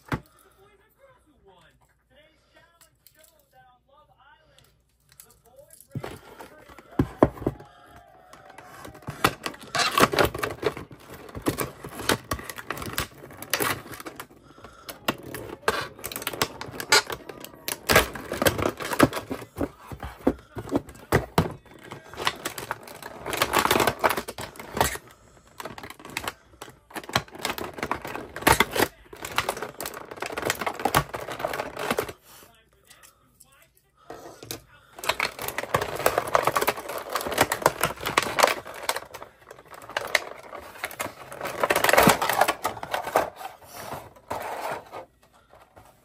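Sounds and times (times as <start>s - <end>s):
plastic packaging crackling: 5.2s - 32.2s, 34.4s - 46.0s.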